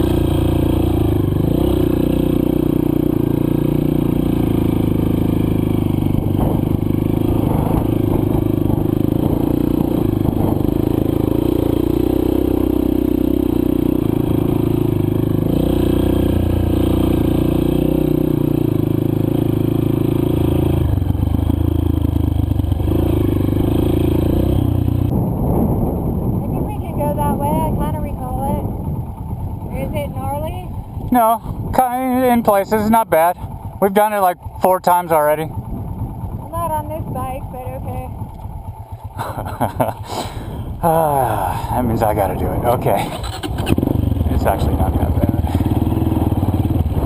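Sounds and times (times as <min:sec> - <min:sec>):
dirt bike engine revving: 0:00.0 - 0:25.2, 0:26.6 - 0:47.0.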